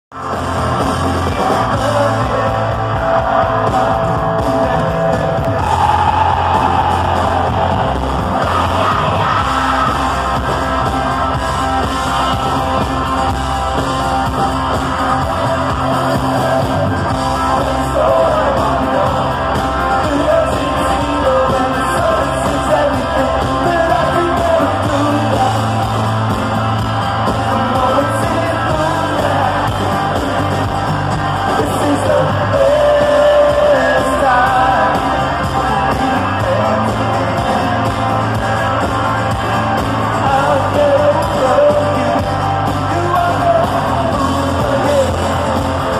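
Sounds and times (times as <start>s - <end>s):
live rock band: 0.1s - 45.9s
lead vocal singing: 1.2s - 11.4s, 15.0s - 45.9s.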